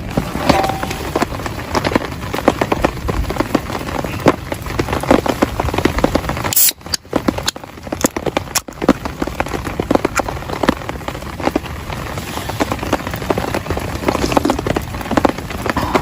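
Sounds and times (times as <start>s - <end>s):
raindrops tapping on a surface: 0.0s - 16.0s.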